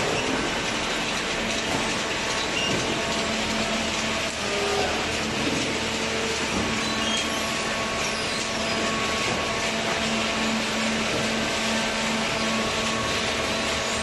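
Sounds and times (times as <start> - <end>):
baler machine humming: 0.0 - 14.0.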